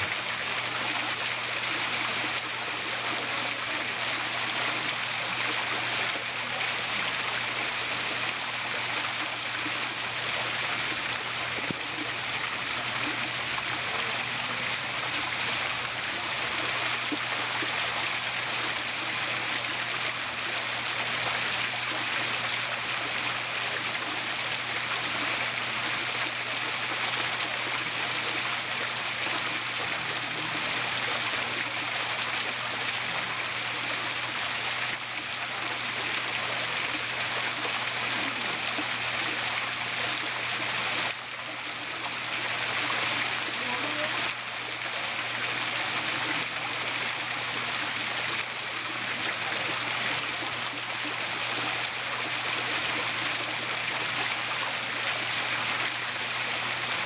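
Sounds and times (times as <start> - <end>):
waterfall pouring into pond: 0.0 - 57.0.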